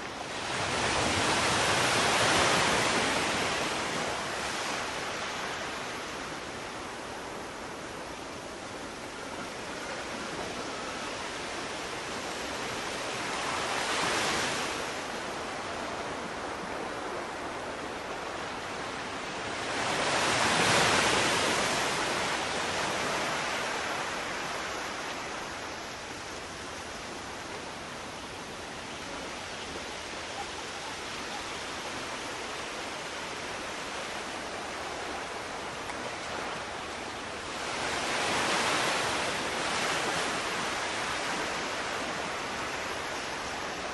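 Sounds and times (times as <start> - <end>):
sea waves surging: 0.0 - 43.9.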